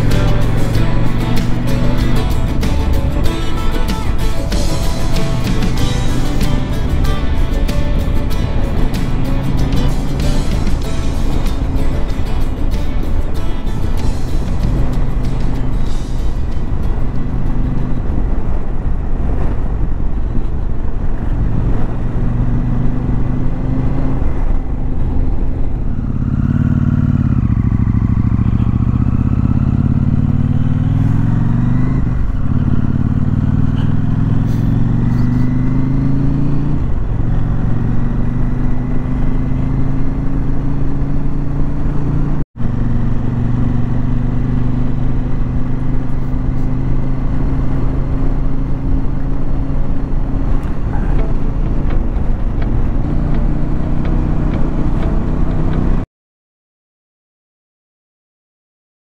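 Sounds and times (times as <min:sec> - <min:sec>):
wind rushing: 0:00.0 - 0:56.0
motorcycle engine on the road: 0:00.0 - 0:56.1.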